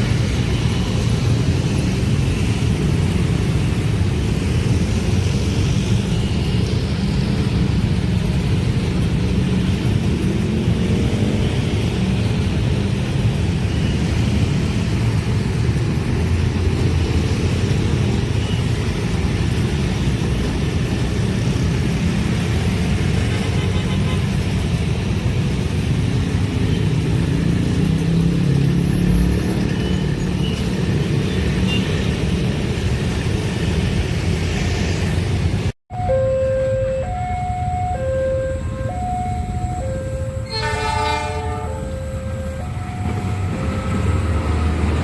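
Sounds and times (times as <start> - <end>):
train passing rumble: 0.0 - 45.0.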